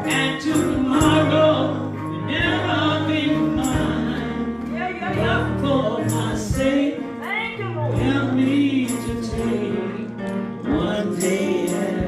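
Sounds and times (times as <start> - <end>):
woman singing gospel song: 0.0 - 10.1.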